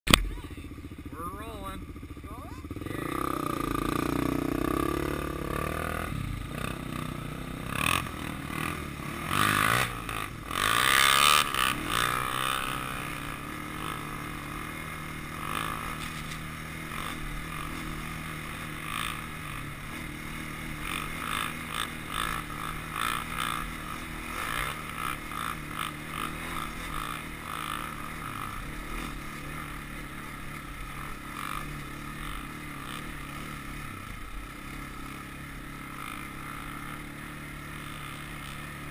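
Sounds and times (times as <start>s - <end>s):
quad engine revving: 0.1s - 38.9s.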